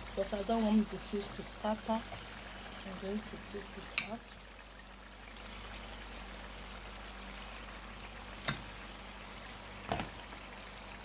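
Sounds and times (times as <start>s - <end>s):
sauce simmering and bubbling: 0.0s - 11.0s.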